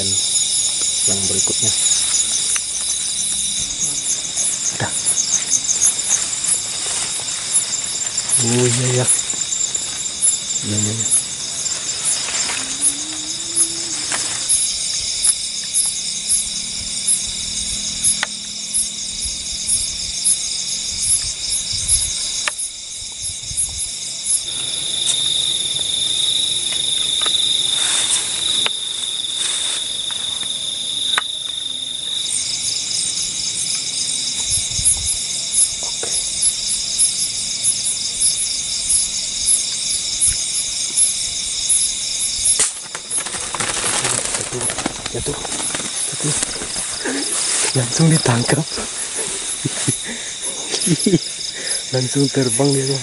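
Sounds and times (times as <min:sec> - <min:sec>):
crickets trilling: 0:00.0 - 0:53.0
loud buzzing insect trill: 0:00.0 - 0:53.0.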